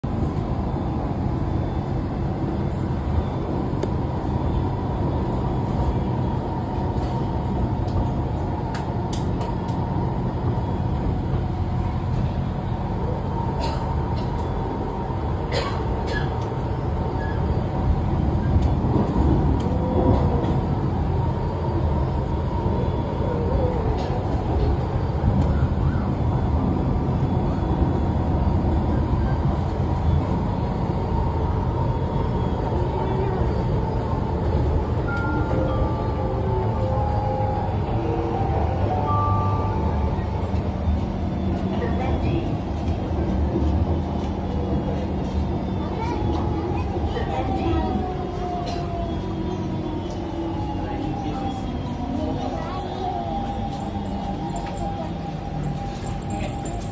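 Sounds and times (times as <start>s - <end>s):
train rumbling: 0.0s - 56.9s.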